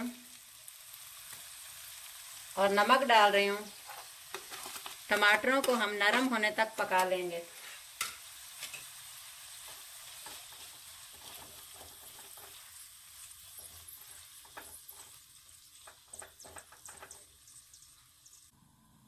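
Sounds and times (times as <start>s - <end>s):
tomatoes sizzling in a pan: 0.0s - 18.6s.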